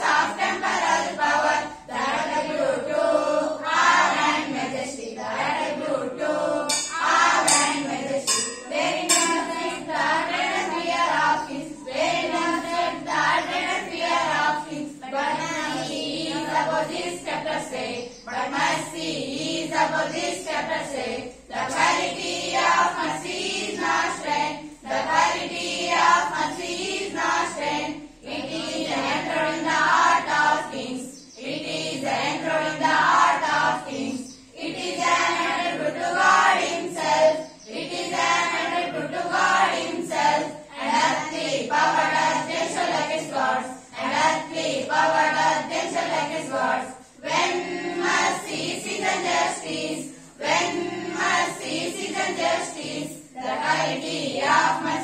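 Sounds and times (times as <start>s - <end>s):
children singing in a choir: 0.0s - 55.0s.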